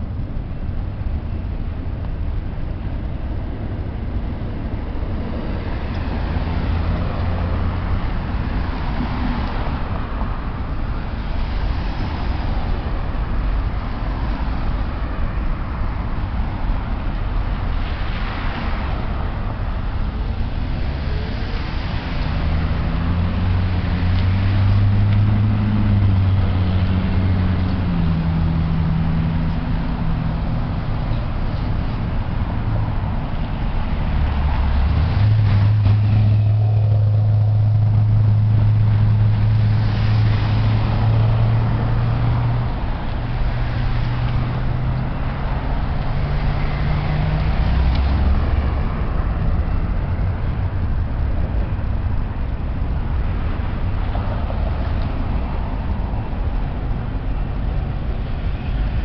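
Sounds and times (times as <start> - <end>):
cars passing by: 0.0 - 59.0
freight train rumble: 0.0 - 59.0.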